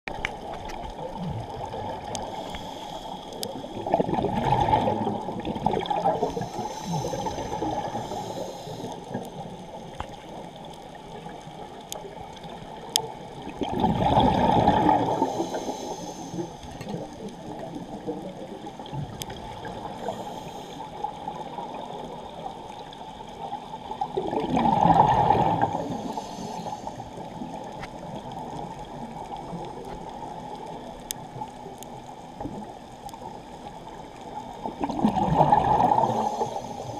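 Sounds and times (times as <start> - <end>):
diver's exhaled bubbles gurgling: 0.1 - 2.8, 3.4 - 10.4, 11.0 - 22.5, 23.4 - 30.6, 34.3 - 36.9
steady underwater hiss: 0.1 - 36.9.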